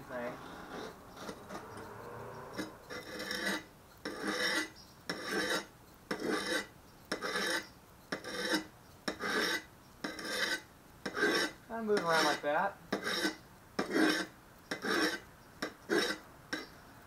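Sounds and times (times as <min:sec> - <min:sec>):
sharpening stone scraping steel: 0:00.4 - 0:01.9, 0:02.5 - 0:16.8.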